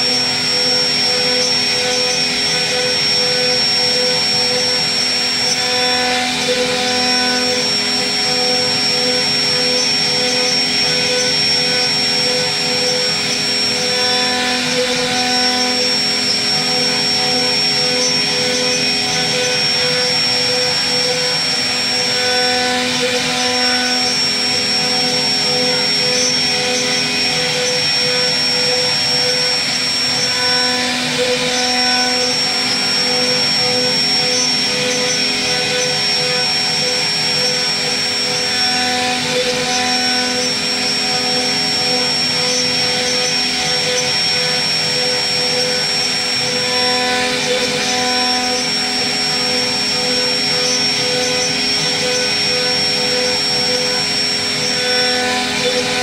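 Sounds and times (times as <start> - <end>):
bit cutting into wood: 0.0 - 56.0
router spindle whining: 0.0 - 56.0.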